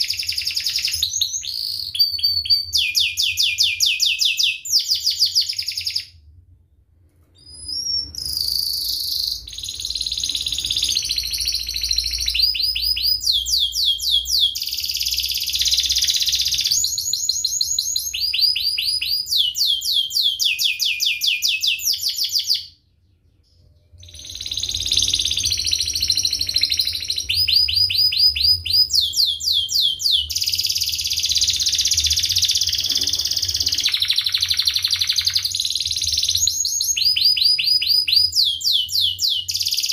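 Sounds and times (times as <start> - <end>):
canary singing: 0.0 - 6.2, 7.2 - 39.9.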